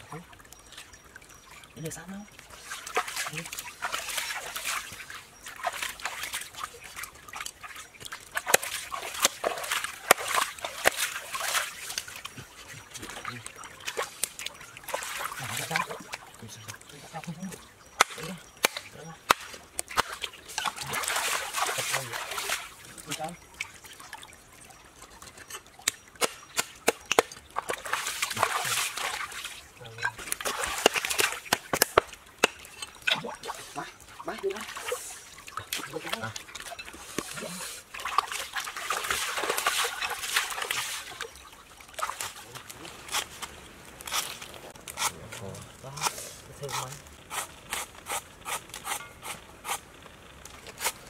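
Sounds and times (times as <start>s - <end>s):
stream water trickling and splashing: 0.0s - 51.0s.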